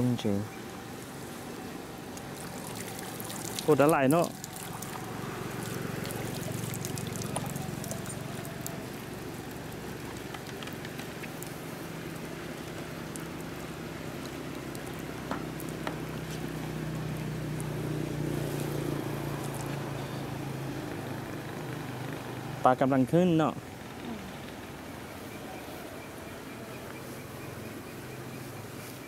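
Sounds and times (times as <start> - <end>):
low motor hum: 0.0 - 25.5.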